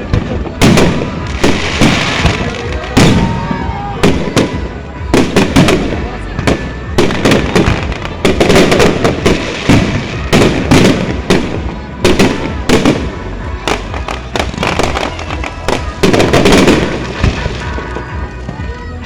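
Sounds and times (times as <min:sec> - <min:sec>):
fireworks crackling: 0:00.0 - 0:19.0
fireworks exploding: 0:00.0 - 0:19.0
music playing: 0:00.0 - 0:19.0.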